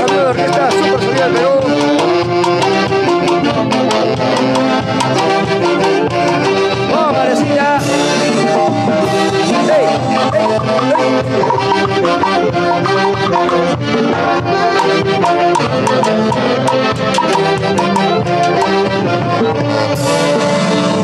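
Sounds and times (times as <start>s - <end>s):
steady beat: 0.0s - 19.9s
saxophones playing dance tune: 0.0s - 21.0s.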